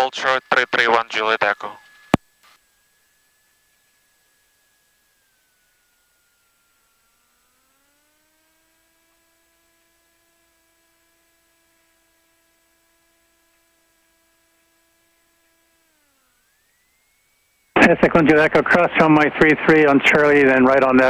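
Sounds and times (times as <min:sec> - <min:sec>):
faint electrical whine: 0:00.0 - 0:21.0.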